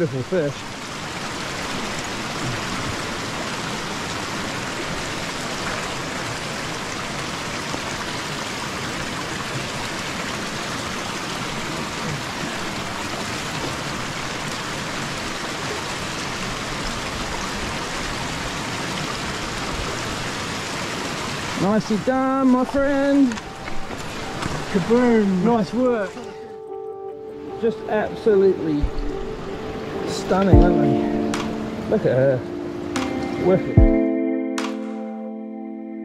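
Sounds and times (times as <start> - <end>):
stony river flowing: 0.0 - 33.8.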